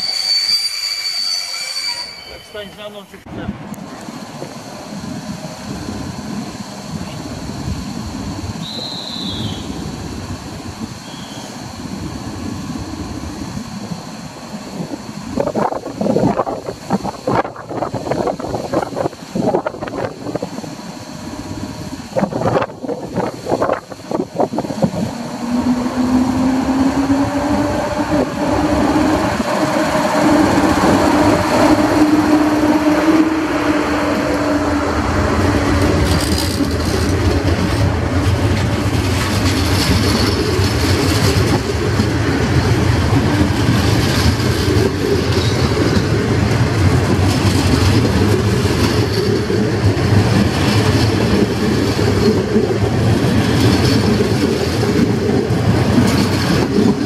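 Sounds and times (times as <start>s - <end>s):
electric locomotive whine: 0.0s - 57.0s
train coaches rumbling and clattering: 0.0s - 57.0s.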